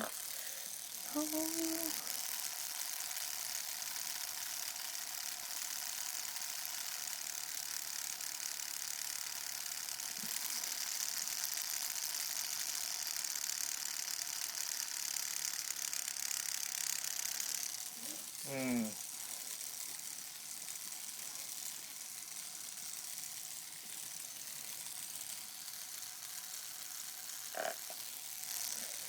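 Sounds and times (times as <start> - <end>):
tattoo machine buzzing: 0.0 - 29.0.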